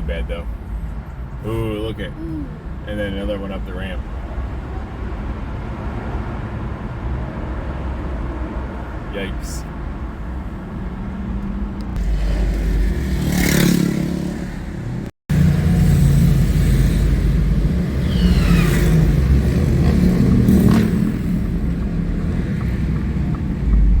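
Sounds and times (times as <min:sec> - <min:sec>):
road traffic rumble: 0:00.0 - 0:24.0
vehicles passing close by: 0:00.0 - 0:24.0.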